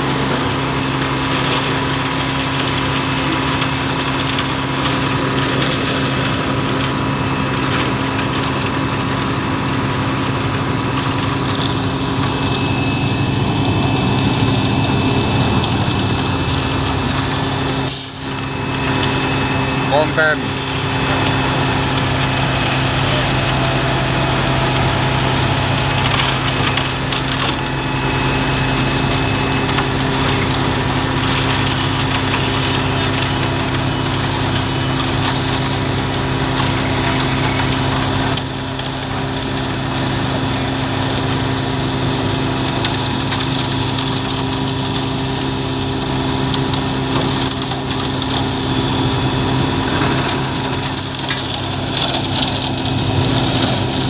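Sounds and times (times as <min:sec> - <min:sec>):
diesel engine running: 0:00.0 - 0:54.0
gritty rush of concrete mixing: 0:00.0 - 0:54.0.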